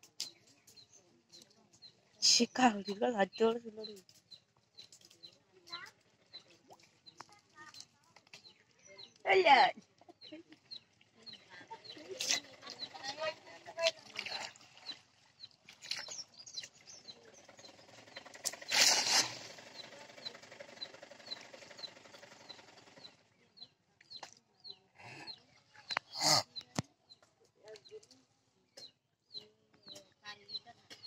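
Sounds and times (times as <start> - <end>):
small bird chirping: 0.0 - 9.3, 10.2 - 31.0.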